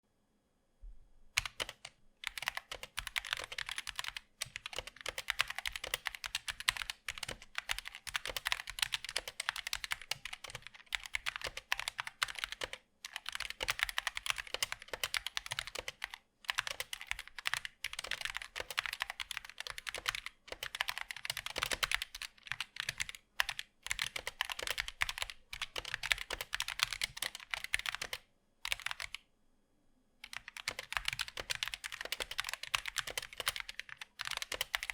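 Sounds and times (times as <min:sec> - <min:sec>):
mechanical keyboard typing: 0:01.4 - 0:29.2, 0:30.2 - 0:34.9.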